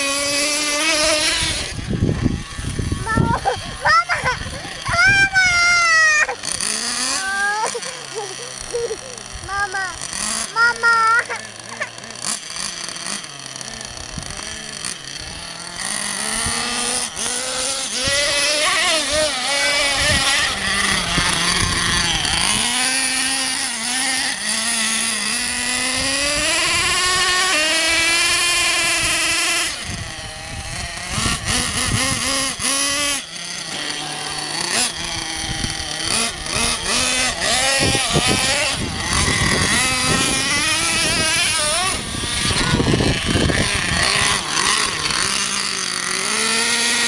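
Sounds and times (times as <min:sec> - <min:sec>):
rc truck nitro engine revving: 0:00.0 - 0:47.0.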